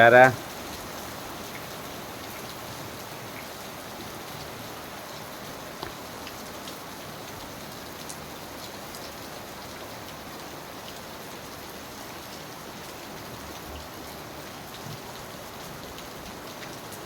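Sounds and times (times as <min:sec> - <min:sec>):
torrential rain: 0:00.0 - 0:17.0.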